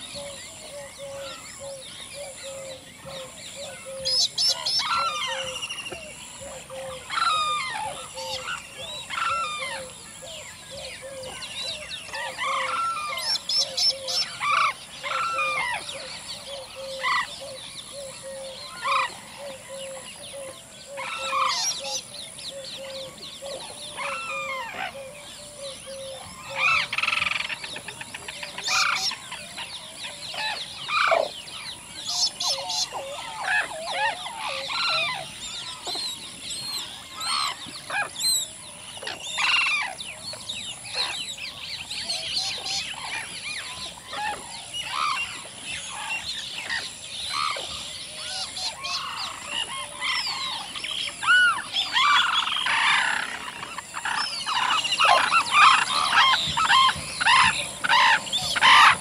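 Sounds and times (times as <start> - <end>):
cranes trumpeting calls: 0.0 - 17.6, 18.2 - 22.0, 22.8 - 29.4, 30.3 - 36.1, 40.9 - 59.0
high cicada drone: 0.0 - 59.0
other birds calling: 0.0 - 59.0.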